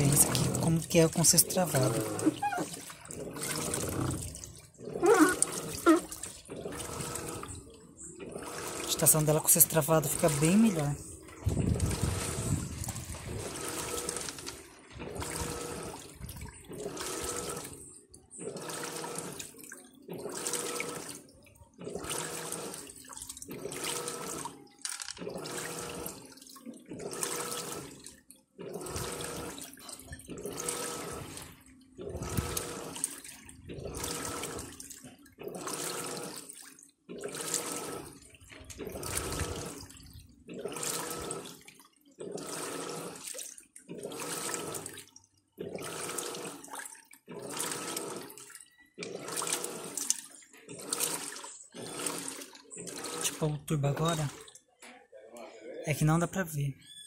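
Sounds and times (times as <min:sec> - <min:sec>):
washing machine agitating: 0:00.0 - 0:54.6
water sloshing: 0:00.0 - 0:54.6.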